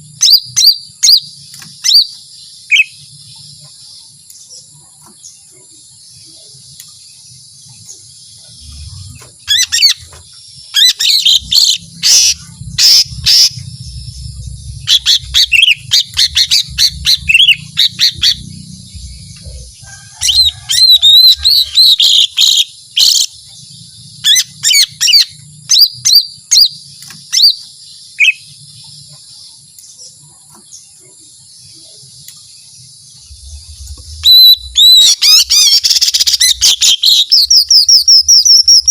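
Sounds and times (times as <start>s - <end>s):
bird chirping and trilling: 0.0s - 38.9s.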